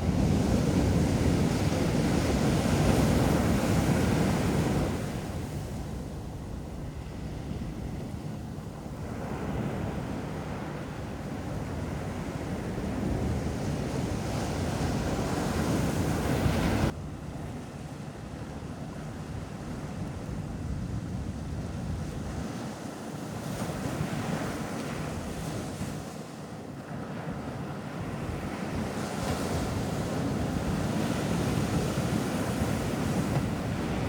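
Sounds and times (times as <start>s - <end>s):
ocean surf washing onto beach: 0.0s - 17.0s, 18.0s - 34.0s
wind rumbling on microphone: 0.0s - 26.1s, 26.8s - 34.0s.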